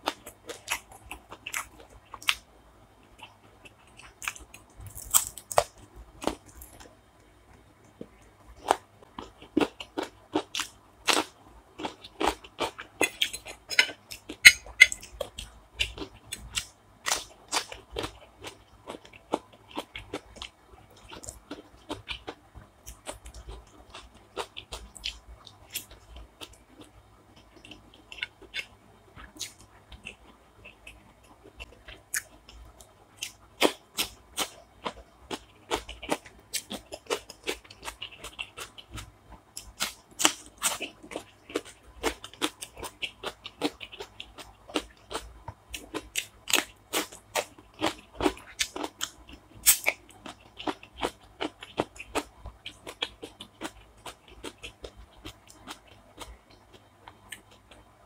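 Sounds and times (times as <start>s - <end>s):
person chewing crunchy food: 0.0s - 2.4s, 3.0s - 7.0s, 8.0s - 57.9s.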